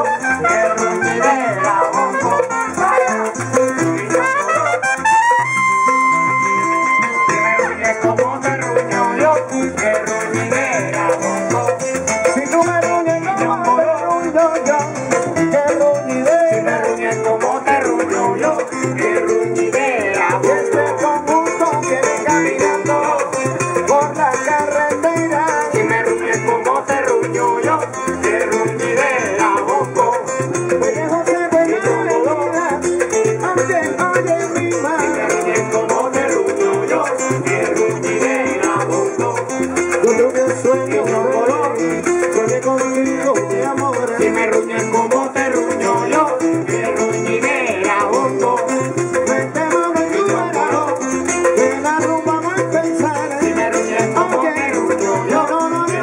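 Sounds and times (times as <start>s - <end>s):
man singing into microphone: 0.0s - 4.8s, 6.6s - 56.0s
acoustic guitar strumming: 0.0s - 56.0s
percussion: 0.0s - 56.0s
upright bass line: 0.0s - 56.0s.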